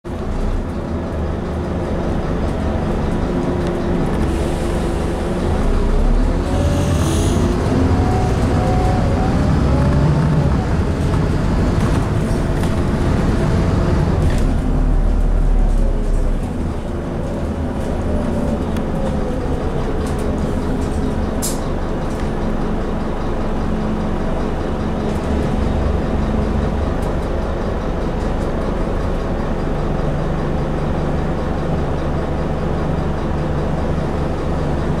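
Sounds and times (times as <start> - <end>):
bus diesel engine and whine: 0.1 - 35.0.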